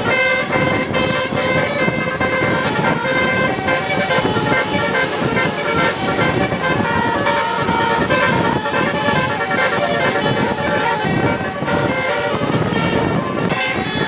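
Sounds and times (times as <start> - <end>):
multi-tone musical air horn: 0.0 - 14.0.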